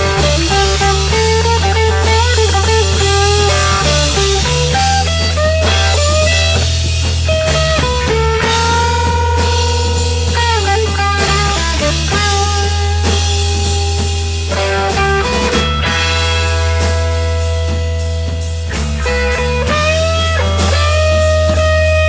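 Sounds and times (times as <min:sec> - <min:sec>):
bass guitar: 0:00.0 - 0:22.0
drums: 0:00.0 - 0:22.0
electric guitar bending notes: 0:00.0 - 0:22.0.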